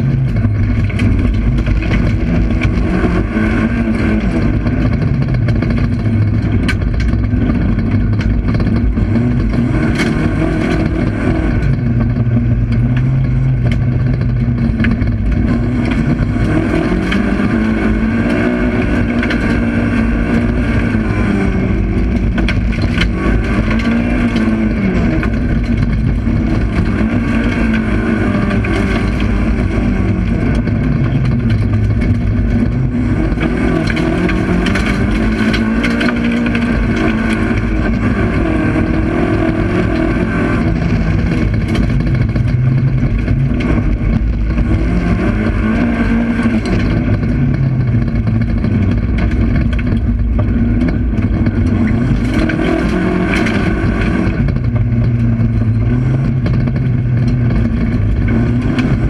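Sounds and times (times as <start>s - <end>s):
knocks and clicks: 0.0s - 59.0s
race car engine revving: 0.0s - 59.0s.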